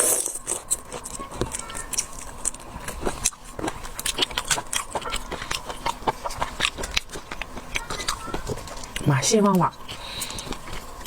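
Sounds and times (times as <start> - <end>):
person chewing and sucking: 0.0 - 9.1, 9.7 - 11.0.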